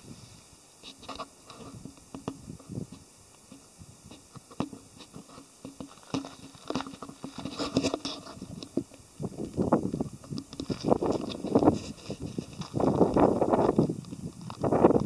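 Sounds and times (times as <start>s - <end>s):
footsteps crunching on loose rock: 1.1s - 15.0s.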